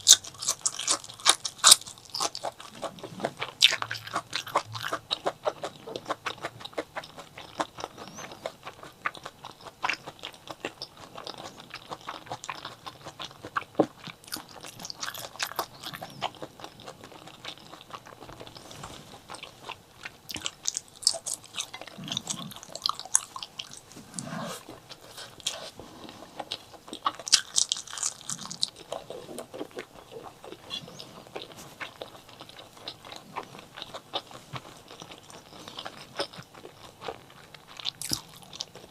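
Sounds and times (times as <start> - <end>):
person chewing and crunching: 0.0 - 38.9.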